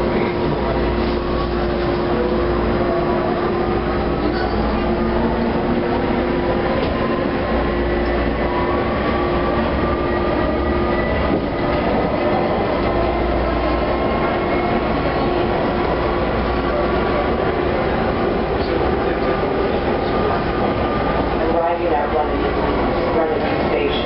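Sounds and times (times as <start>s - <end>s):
subway wheels rumbling on track: 0.0s - 24.0s.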